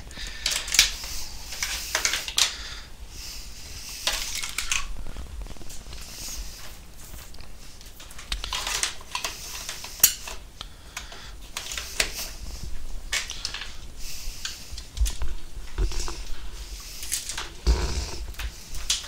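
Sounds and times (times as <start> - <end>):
cables rustling: 0.0 - 19.0.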